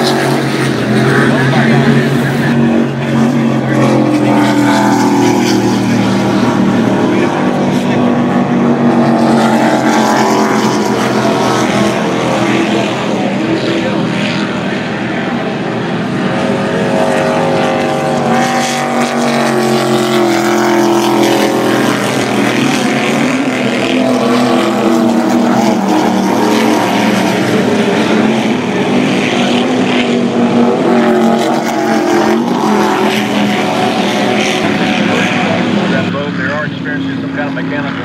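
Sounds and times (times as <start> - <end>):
powerboat engines passing: 0.0 - 38.0.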